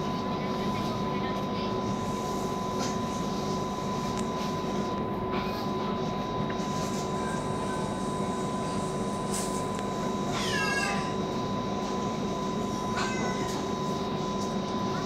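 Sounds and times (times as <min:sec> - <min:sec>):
train rumble and whine: 0:00.0 - 0:15.0.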